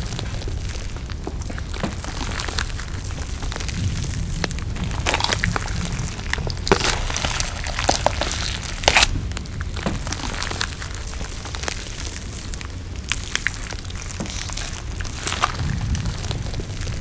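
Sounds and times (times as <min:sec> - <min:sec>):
crunchy bites and chewing: 0:01.4 - 0:17.0.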